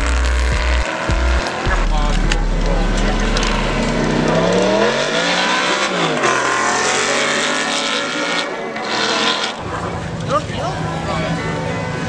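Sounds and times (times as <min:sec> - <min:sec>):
sports car accelerating past: 0:00.6 - 0:12.0.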